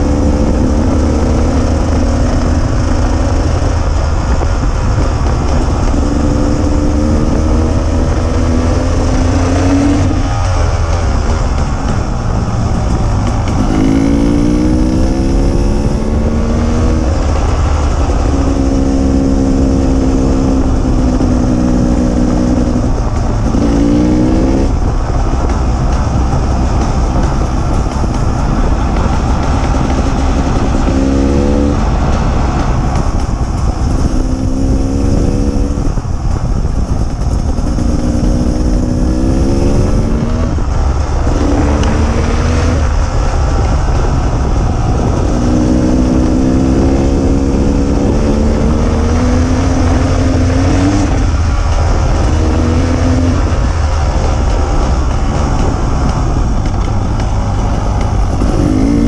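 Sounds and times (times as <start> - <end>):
motorcycle engine accelerating: 0.0 - 59.0
wind rumble on microphone: 0.0 - 59.0.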